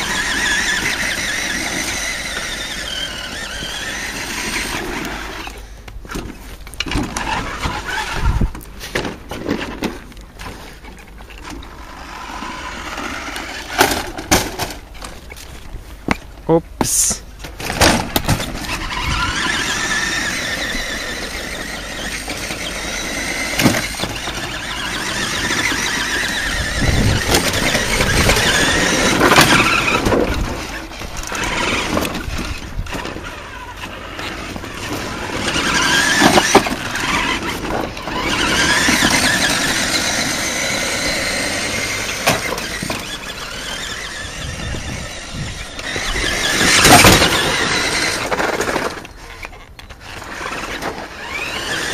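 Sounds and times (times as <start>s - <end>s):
toy truck motor whining: 0.0s - 8.6s, 11.4s - 15.2s, 18.1s - 51.9s.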